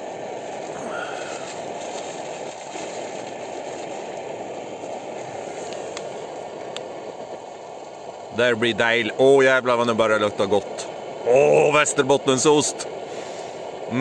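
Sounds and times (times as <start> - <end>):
camping stove roaring: 0.0 - 14.0.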